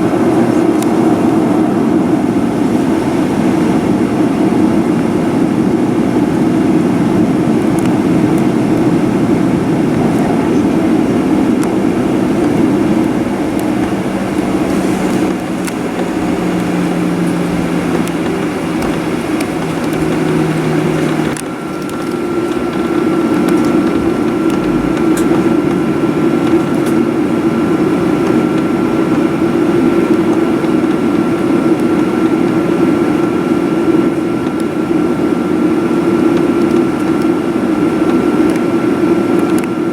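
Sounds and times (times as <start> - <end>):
airplane engine rumble in cabin: 0.0 - 39.9
steady high whine: 0.0 - 39.9.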